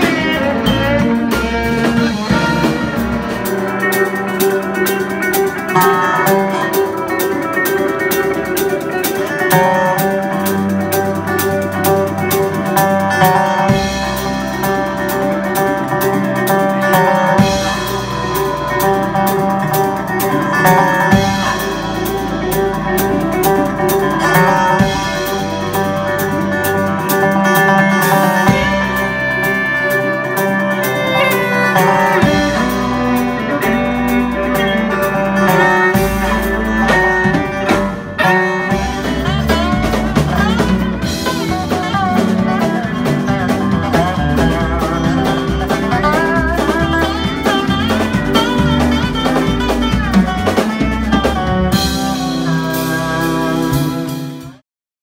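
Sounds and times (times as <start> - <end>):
live band playing: 0.0 - 54.6
steel guitar gliding notes: 0.0 - 54.6.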